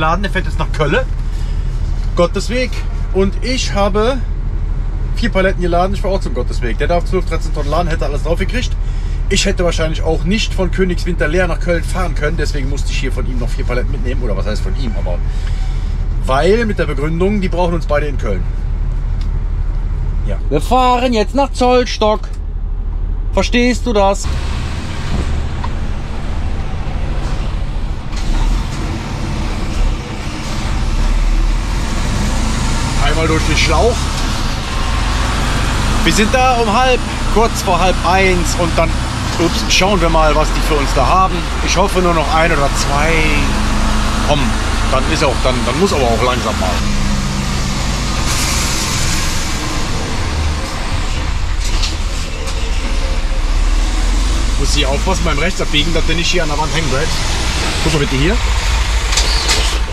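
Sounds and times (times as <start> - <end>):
lorry engine rumble: 0.0 - 59.9
road noise: 0.0 - 59.9.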